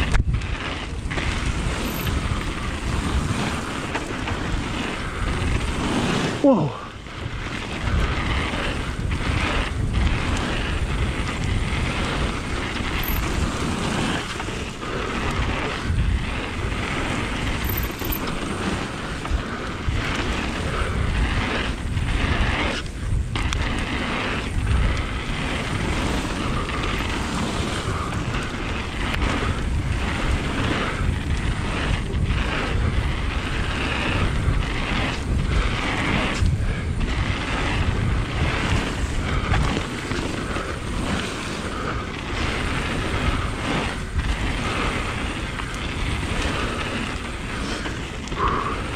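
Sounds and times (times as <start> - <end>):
bike tyres rolling on gravel: 0.0 - 48.9
wind on microphone: 0.0 - 48.9.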